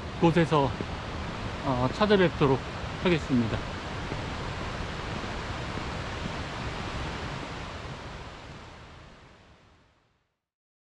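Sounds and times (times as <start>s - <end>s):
mountain stream rushing: 0.0s - 9.8s.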